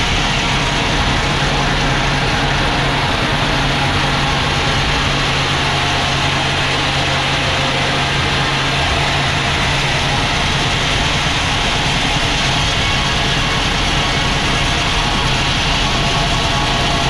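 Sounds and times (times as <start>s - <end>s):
sawmill machinery engine drone: 0.0s - 17.0s.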